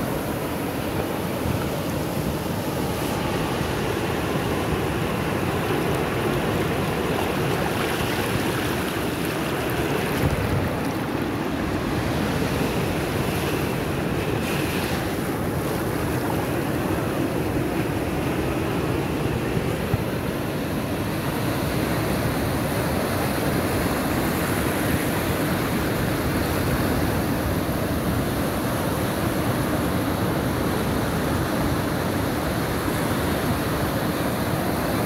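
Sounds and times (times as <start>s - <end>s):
surf washing on sand: 0.0s - 35.0s
waves breaking: 0.0s - 35.0s.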